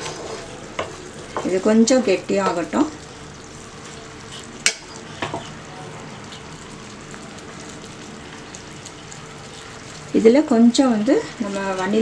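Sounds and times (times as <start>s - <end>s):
syrup sizzling and bubbling: 0.0s - 12.0s.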